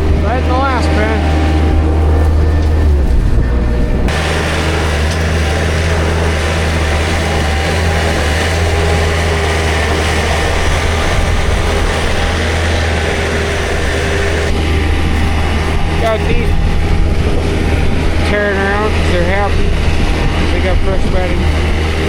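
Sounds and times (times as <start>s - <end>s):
farm machine engine running: 0.0s - 22.0s
loud rushing noise: 0.0s - 22.0s.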